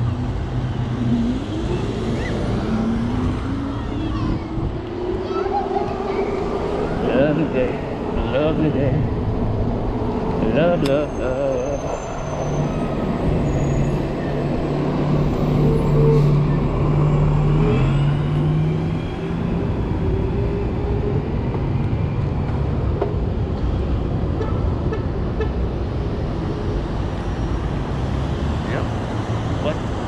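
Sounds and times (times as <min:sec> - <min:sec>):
vehicle low hum: 0:00.0 - 0:24.2
street traffic: 0:00.0 - 0:30.0.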